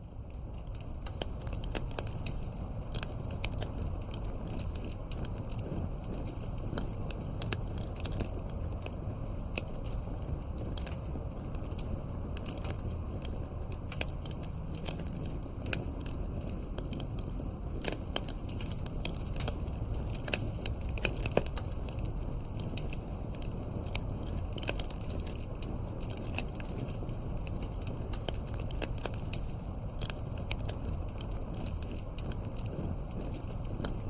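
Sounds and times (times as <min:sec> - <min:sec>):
campfire crackling and popping: 0:00.0 - 0:34.0
low rumble of flames: 0:00.0 - 0:34.0.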